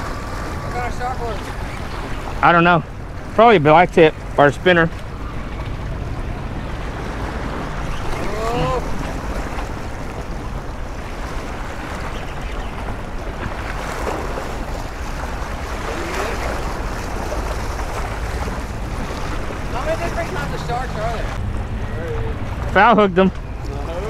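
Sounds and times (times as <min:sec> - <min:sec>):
waves lapping against rocks: 0:00.0 - 0:24.0
wind buffeting microphone: 0:00.0 - 0:24.0.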